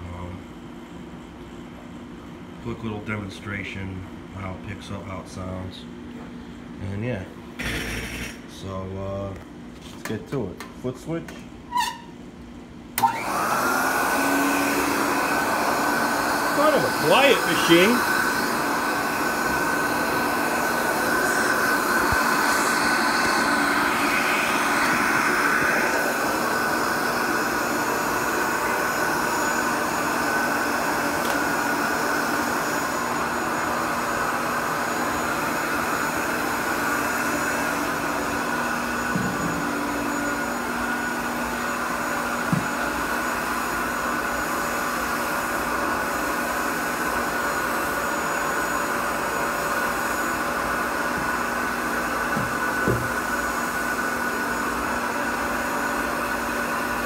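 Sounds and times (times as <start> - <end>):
vacuum cleaner running: 2.6 - 9.2, 13.0 - 57.0.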